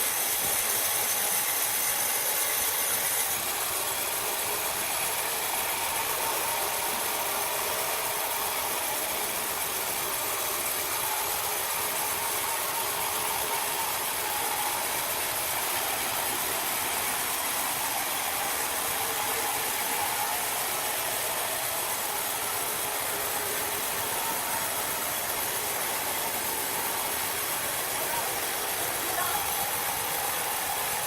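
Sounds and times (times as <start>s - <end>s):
machine running with hiss: 0.0s - 31.0s.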